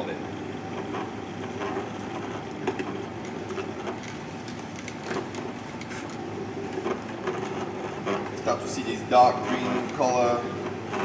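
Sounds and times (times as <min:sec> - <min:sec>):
juicer machine hum: 0:00.0 - 0:11.0.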